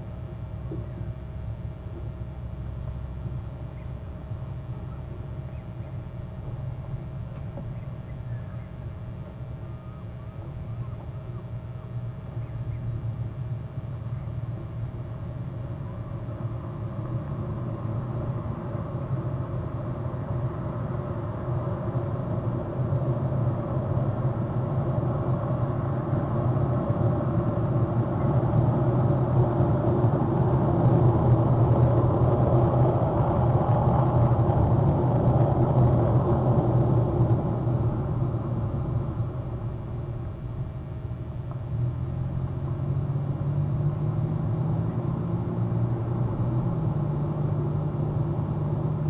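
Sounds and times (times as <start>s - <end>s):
low engine rumble: 0.0s - 49.0s.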